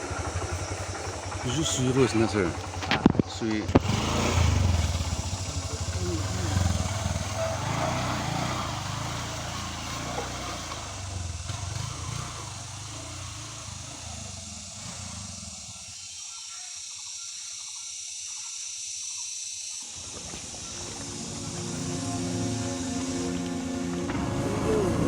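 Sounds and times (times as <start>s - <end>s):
motorcycle engine: 0.0s - 16.4s, 19.8s - 25.0s.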